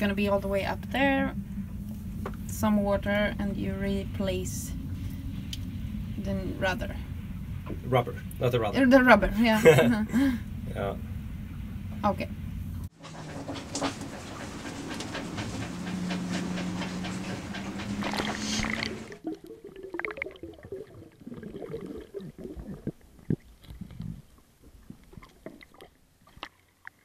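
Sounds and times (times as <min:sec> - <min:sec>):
low hum: 0:00.0 - 0:25.3.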